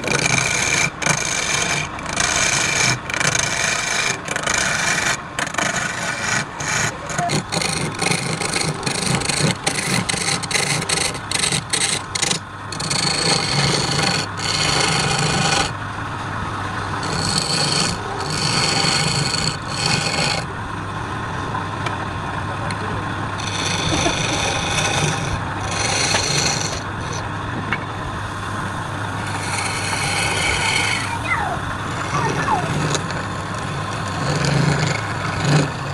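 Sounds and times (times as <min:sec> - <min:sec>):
tool scraping spinning wood: 0:00.0 - 0:35.9
wood lathe humming: 0:00.0 - 0:35.9.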